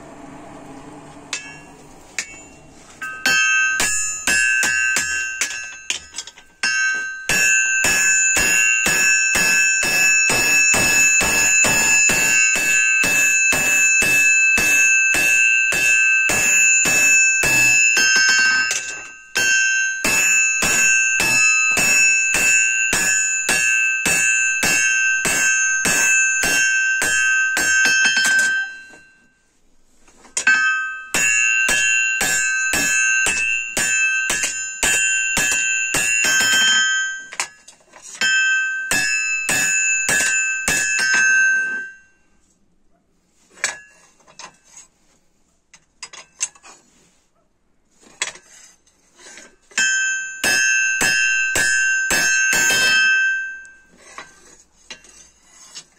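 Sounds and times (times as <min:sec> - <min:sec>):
hammer striking hot steel: 0:01.3 - 0:29.2, 0:30.3 - 0:42.1, 0:48.1 - 0:55.8
anvil ringing: 0:01.3 - 0:29.4, 0:30.4 - 0:42.3, 0:49.7 - 0:55.2.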